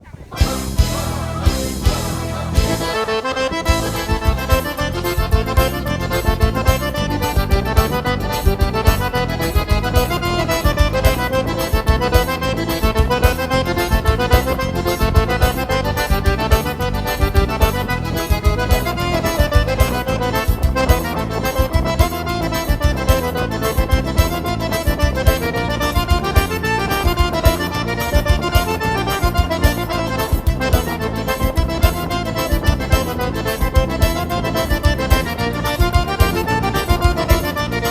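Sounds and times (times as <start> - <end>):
accordion music with beat and bass: 0.0 - 37.9.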